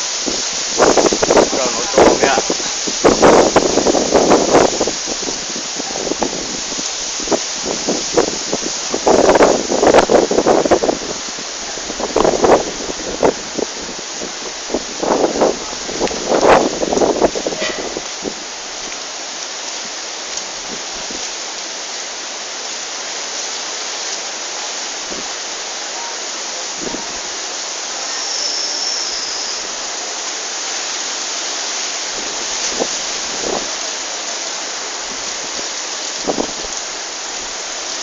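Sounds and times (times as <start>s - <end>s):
big waves: 0.0s - 38.0s
strong wind: 0.0s - 38.0s.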